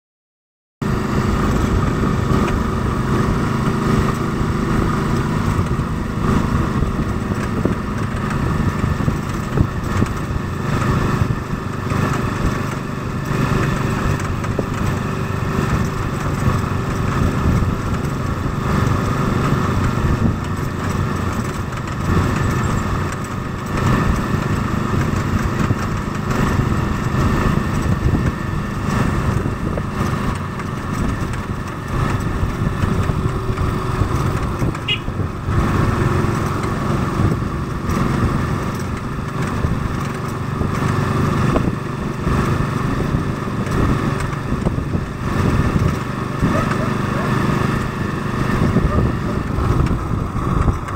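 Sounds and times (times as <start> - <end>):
small vehicle engine running: 0.8 - 50.9
wind and road noise: 0.8 - 50.9.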